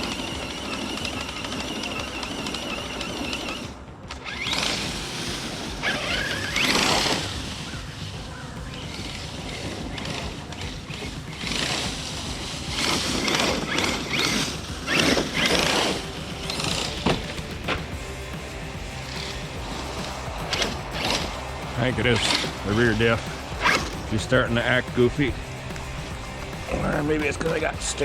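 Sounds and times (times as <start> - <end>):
drivetrain grinding: 0.0 - 28.0
electric motor whine: 0.0 - 28.0
tyre and drivetrain noise: 0.0 - 28.0.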